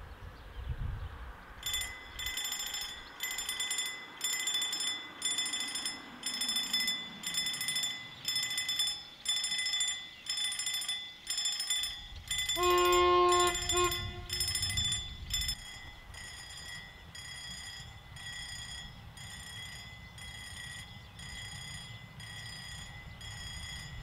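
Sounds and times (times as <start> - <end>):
level crossing warning ringing: 1.6 - 24.0.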